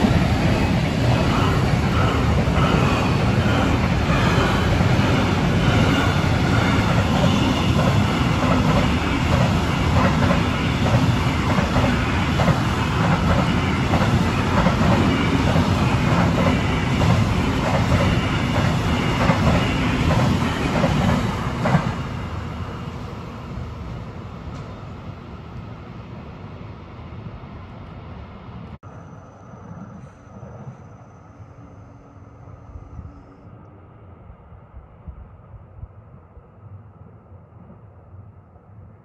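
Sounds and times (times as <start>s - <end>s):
freight train rumbling past: 0.0s - 36.4s.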